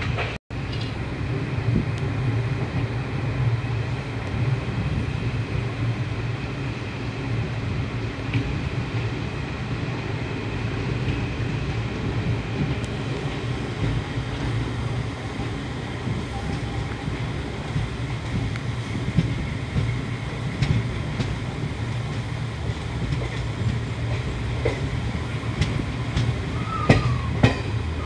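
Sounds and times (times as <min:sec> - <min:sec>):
passenger train rumbling at speed: 0:00.0 - 0:28.0.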